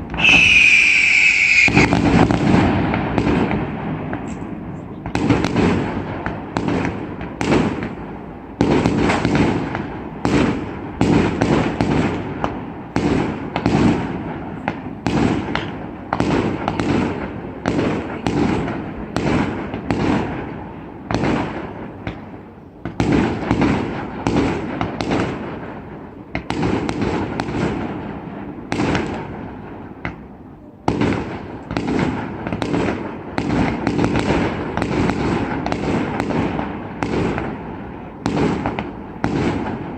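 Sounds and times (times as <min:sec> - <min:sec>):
fireworks bursting with loud bangs: 0:00.0 - 0:39.9.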